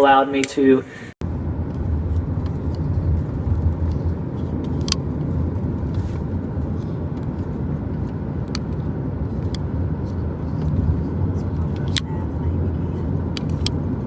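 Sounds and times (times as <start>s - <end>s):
low rumble: 1.1s - 14.0s.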